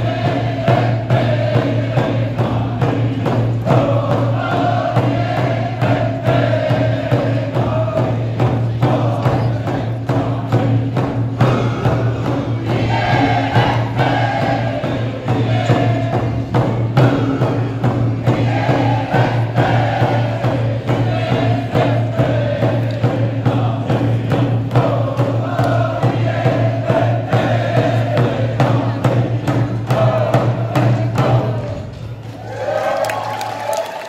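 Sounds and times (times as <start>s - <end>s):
group singing a chant: 0.0s - 32.0s
steady drum beat: 0.0s - 32.4s.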